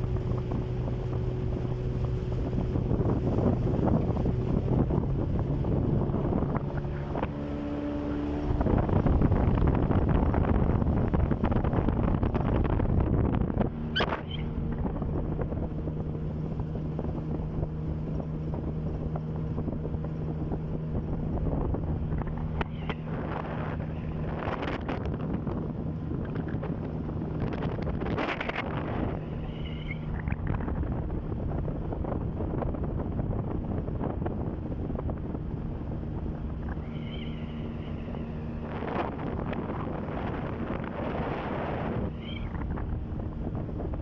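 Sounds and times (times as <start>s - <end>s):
outboard motor running: 0.0s - 44.0s
waves splashing against hull: 0.0s - 44.0s
wind buffeting microphone: 0.0s - 44.0s.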